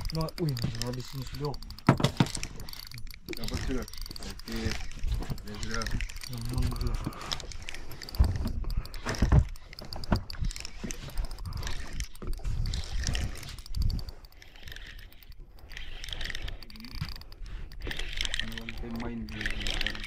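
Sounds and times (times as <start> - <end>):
water against hull: 0.0 - 20.0.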